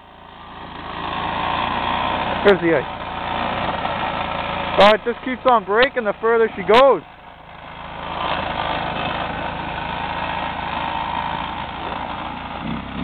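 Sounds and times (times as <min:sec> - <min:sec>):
atv engine under throttle: 0:00.0 - 0:13.0.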